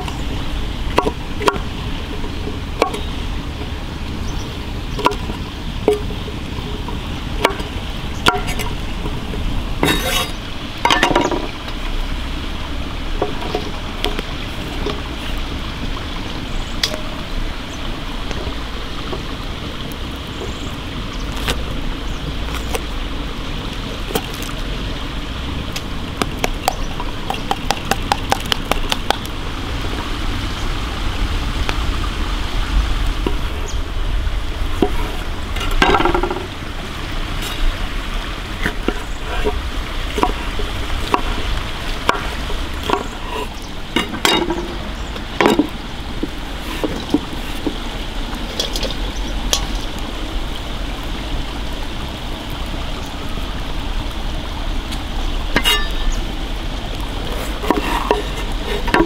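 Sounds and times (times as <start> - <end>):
forest stream flowing: 0.0 - 59.0.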